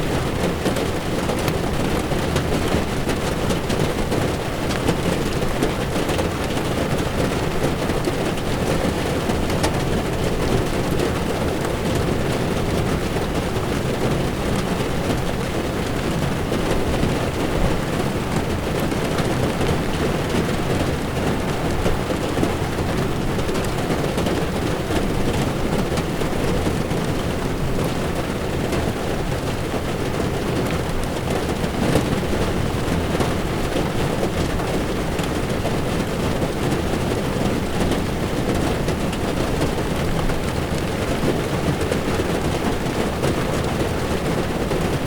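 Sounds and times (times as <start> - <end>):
heavy rain on car windshield: 0.0 - 45.0
raindrop ticks: 0.0 - 45.0
tyre noise on wet road: 0.0 - 45.0.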